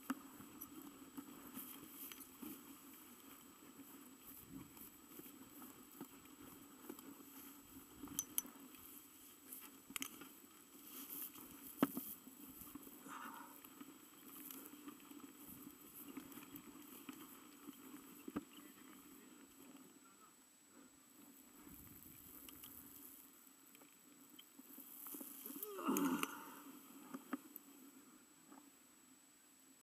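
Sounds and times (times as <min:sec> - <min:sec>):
low steady hum: 0:00.0 - 0:29.8.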